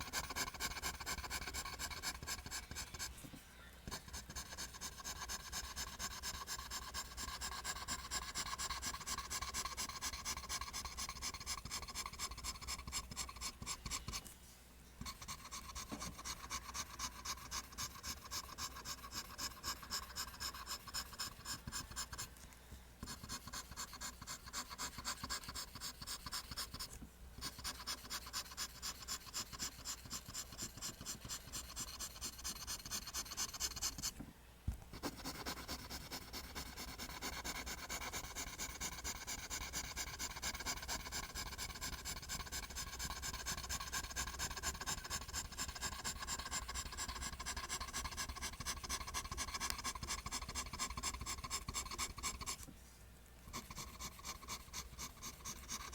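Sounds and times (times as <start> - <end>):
pencil scratching on paper: 0.0 - 3.2, 3.9 - 14.3, 15.0 - 22.3, 23.0 - 34.1, 35.0 - 52.7, 53.5 - 55.9.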